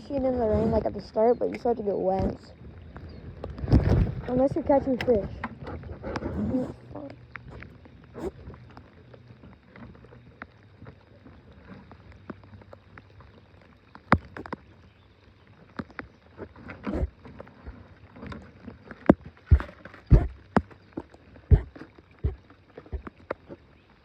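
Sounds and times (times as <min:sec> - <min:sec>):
raindrops ticking on boat: 0:00.0 - 0:24.0.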